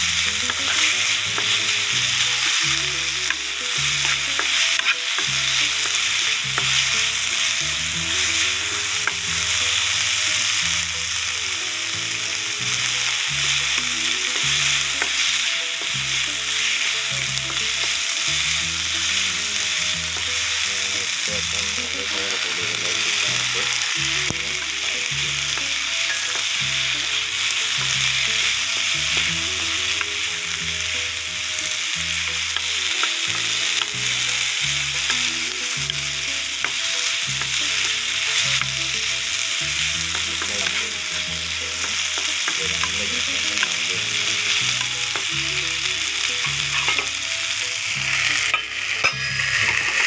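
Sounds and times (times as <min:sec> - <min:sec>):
spatula stirring in pan: 0:00.0 - 0:50.0
vegetables sizzling in hot oil: 0:00.0 - 0:50.0.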